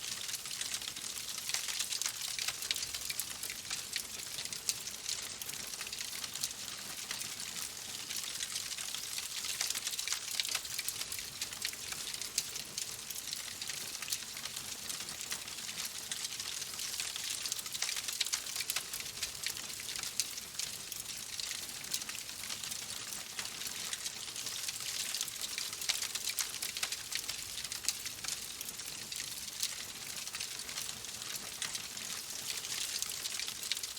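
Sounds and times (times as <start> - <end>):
wood fire crackling: 0.1 - 7.6, 8.2 - 13.4, 14.0 - 22.4, 23.0 - 33.9.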